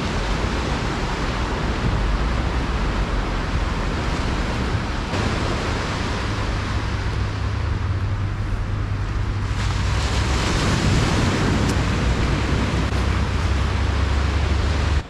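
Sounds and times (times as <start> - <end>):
waves washing up a beach: 0.0 - 15.0
wind buffeting the microphone: 0.0 - 15.0.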